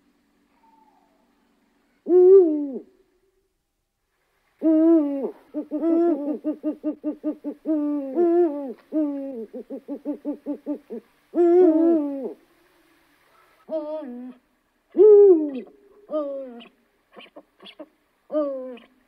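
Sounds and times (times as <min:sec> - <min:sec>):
owl hooting: 0:00.5 - 0:03.0, 0:04.6 - 0:12.5, 0:13.3 - 0:19.0.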